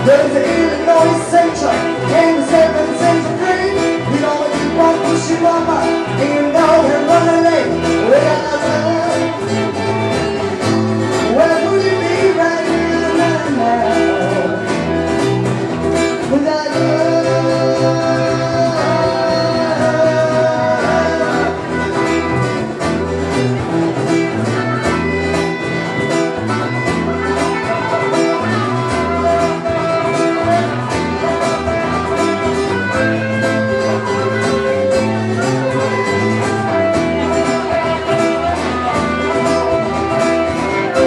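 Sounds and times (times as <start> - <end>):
bass guitar: 0.0 - 41.0
electric lead guitar: 0.0 - 41.0
strummed acoustic guitar: 0.0 - 41.0.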